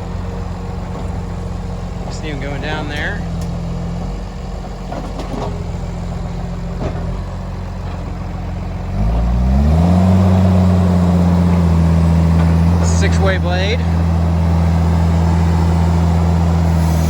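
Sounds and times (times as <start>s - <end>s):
bulldozer diesel engine revving: 0.0s - 17.0s.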